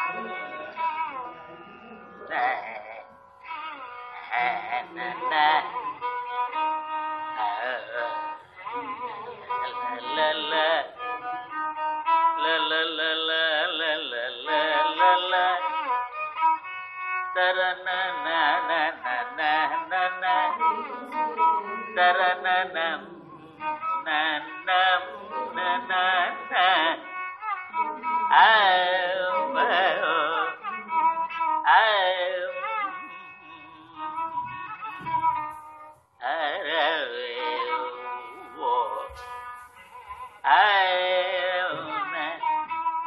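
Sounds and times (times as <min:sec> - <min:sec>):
man singing: 0:00.0 - 0:16.4, 0:17.3 - 0:35.5, 0:36.2 - 0:43.0
violin accompaniment: 0:00.0 - 0:43.0.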